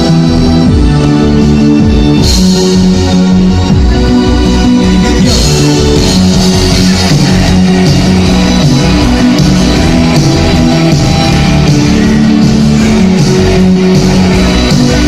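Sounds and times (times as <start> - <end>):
rock band with electric guitar: 0.0 - 15.0.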